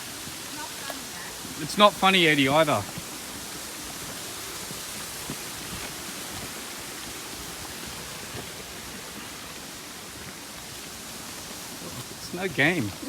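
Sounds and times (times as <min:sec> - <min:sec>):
falling water hissing: 0:00.0 - 0:13.0.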